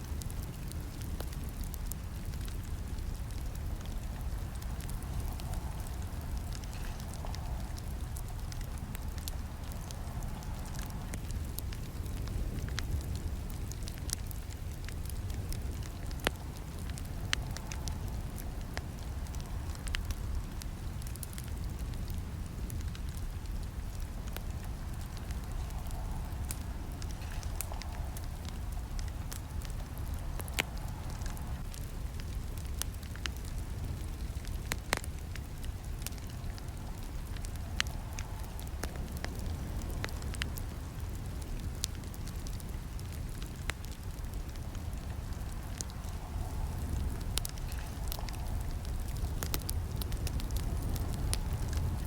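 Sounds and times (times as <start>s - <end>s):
campfire crackling: 0.0s - 52.0s
low rumble of flames: 0.0s - 52.0s.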